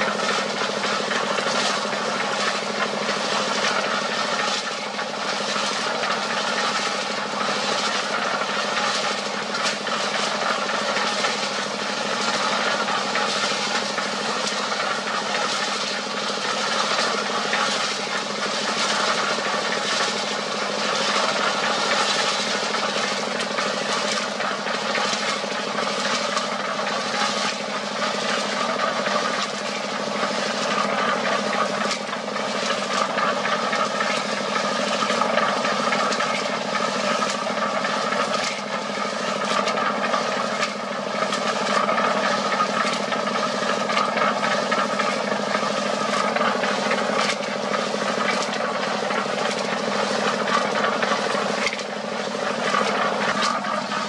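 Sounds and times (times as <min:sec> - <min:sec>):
diesel engine running: 0:00.0 - 0:54.0
gravel rattling in mixer drum: 0:00.0 - 0:54.0.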